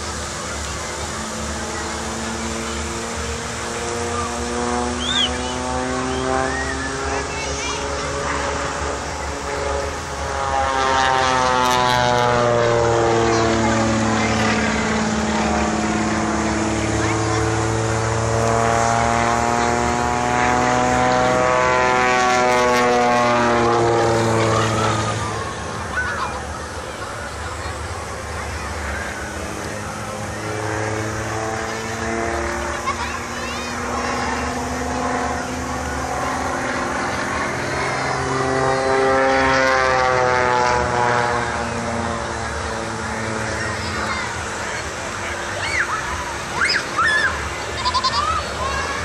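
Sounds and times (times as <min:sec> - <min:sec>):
propeller plane engine drone: 0:00.0 - 0:49.0.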